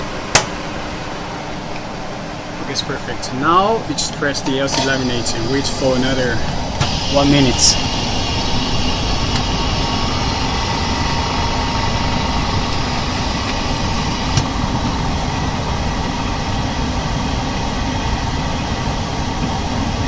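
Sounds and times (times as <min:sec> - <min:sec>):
laminating machine humming and hissing: 0:00.0 - 0:20.0.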